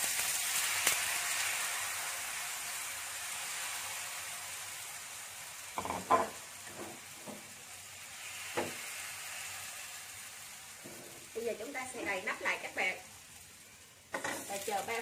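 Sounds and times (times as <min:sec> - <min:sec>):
batter sizzling in frying pan: 0:00.0 - 0:15.0.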